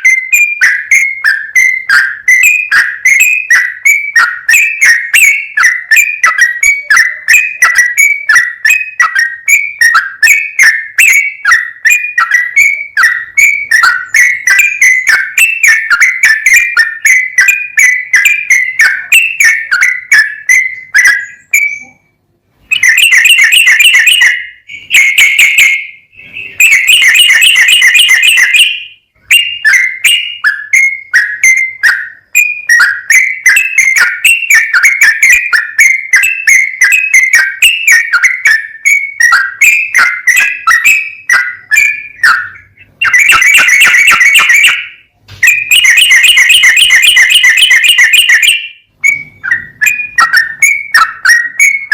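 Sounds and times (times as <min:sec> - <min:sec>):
bulbul singing: 0:00.0 - 0:51.9.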